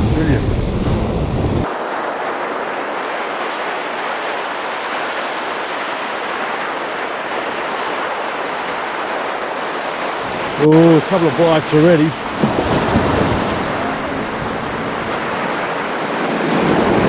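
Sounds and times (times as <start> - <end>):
ocean waves breaking on beach: 1.6 - 17.0.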